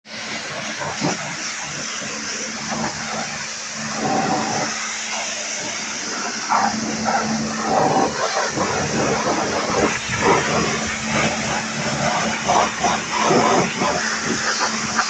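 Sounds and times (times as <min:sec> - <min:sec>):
rushing machine noise: 0:00.1 - 0:15.0.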